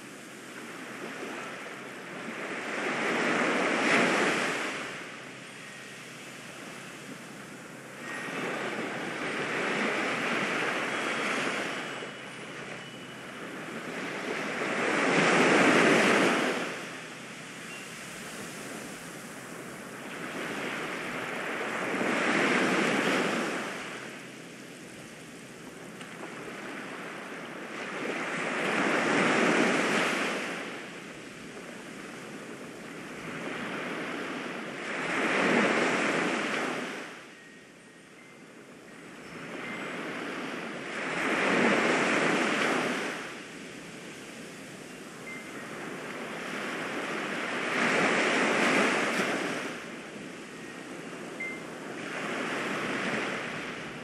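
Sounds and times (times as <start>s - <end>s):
waves breaking and washing in: 0.0s - 54.0s.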